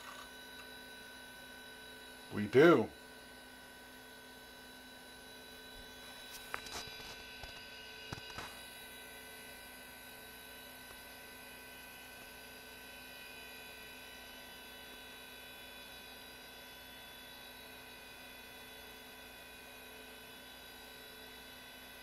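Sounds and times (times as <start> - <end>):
computer hum and whine: 0.0 - 22.0.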